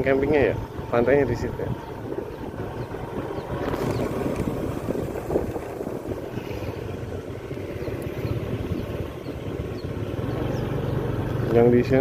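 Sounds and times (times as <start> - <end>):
road noise: 0.0 - 12.0
vehicle engine rumble: 0.0 - 12.0.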